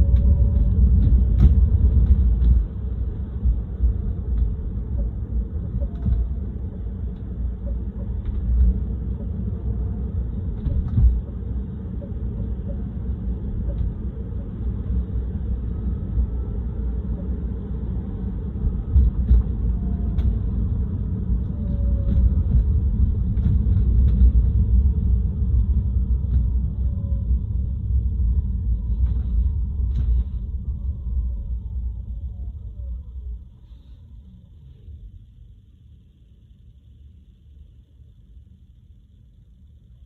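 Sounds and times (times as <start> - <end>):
car road rumble: 0.0 - 40.0.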